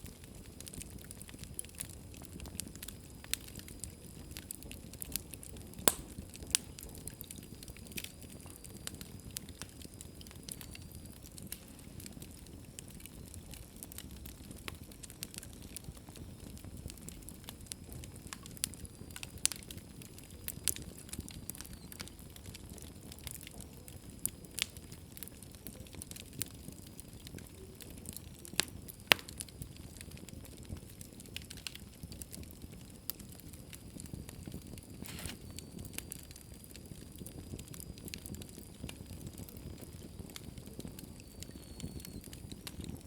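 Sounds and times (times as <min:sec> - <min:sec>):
wood fire burning in fireplace: 0:00.0 - 0:43.0.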